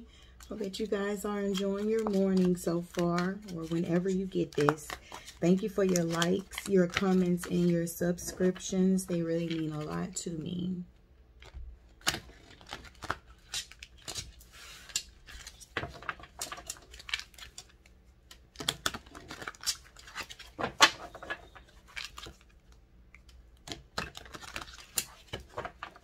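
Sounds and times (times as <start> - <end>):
cards being shuffled: 0.4 - 10.4, 11.4 - 26.0.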